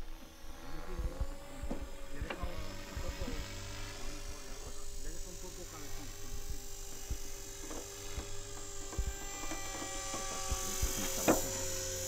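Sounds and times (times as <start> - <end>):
model aircraft motor whine: 0.0 - 12.0.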